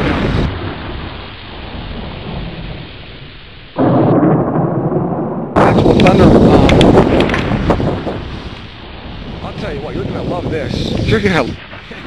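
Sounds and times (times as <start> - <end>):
heavy rain rushing: 0.0 - 12.0
thunder rumbling: 0.0 - 12.0.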